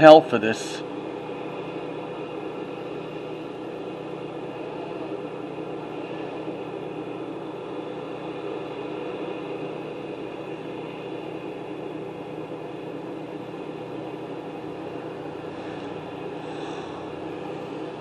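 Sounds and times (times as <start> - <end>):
faint steady hum: 0.0 - 18.0
steady mechanical drone: 0.0 - 18.0.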